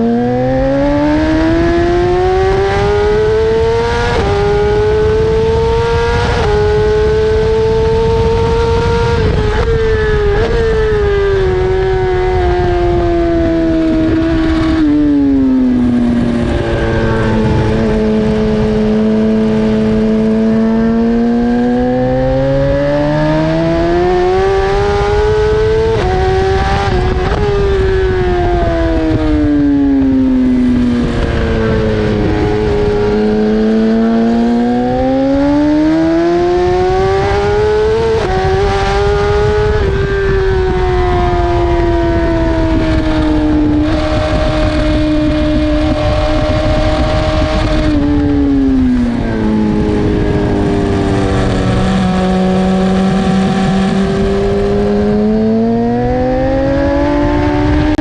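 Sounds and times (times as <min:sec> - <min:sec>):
heavy wind rush: 0:00.0 - 0:58.0
motorcycle engine revving: 0:00.0 - 0:58.0.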